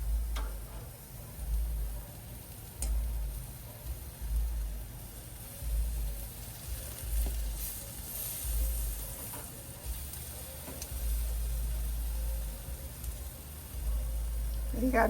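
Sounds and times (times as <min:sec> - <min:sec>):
shrimp sizzling on a grill: 0:00.0 - 0:15.0.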